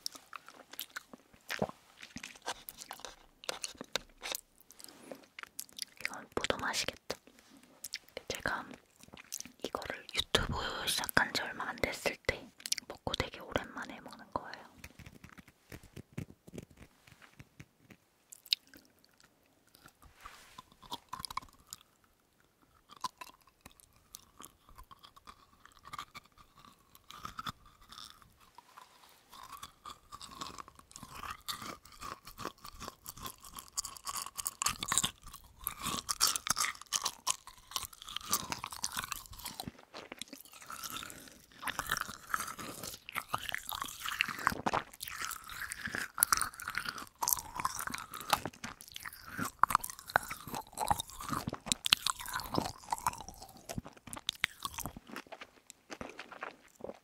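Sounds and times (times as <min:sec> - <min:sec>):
chewing sticky candy: 0:00.0 - 0:57.0.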